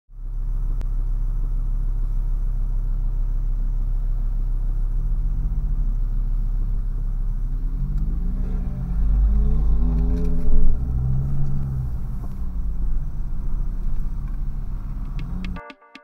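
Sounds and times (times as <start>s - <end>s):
sports car engine rumbling: 0.1s - 15.6s.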